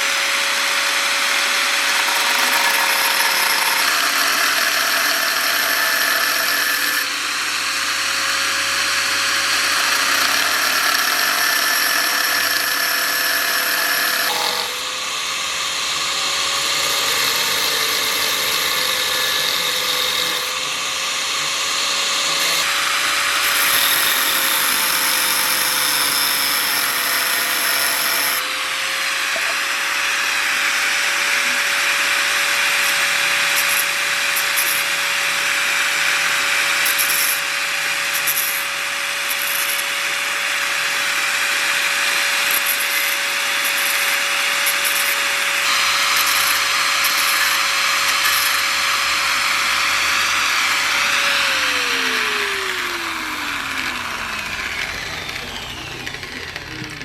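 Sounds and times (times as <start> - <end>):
electric power tool grinding: 0.0 - 57.0.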